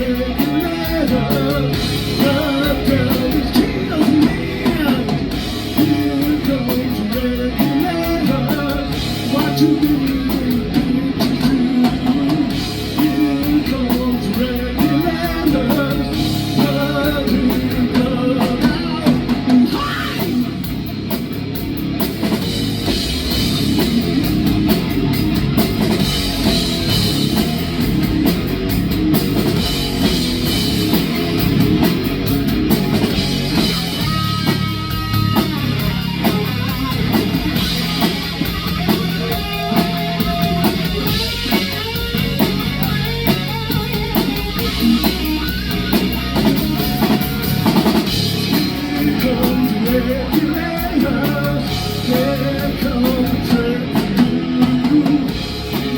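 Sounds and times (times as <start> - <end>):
drum kit: 0.0 - 55.9
electric guitars: 0.0 - 55.9.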